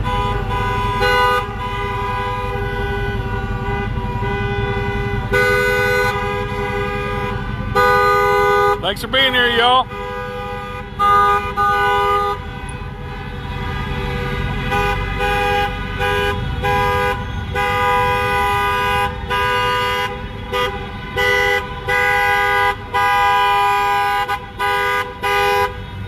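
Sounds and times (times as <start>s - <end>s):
car horns honking: 0.0s - 26.0s
slow traffic rumble: 0.0s - 26.0s.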